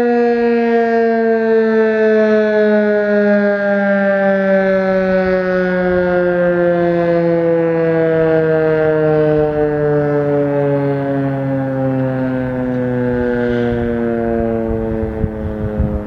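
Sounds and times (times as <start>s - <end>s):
warning siren winding down: 0.0s - 16.0s.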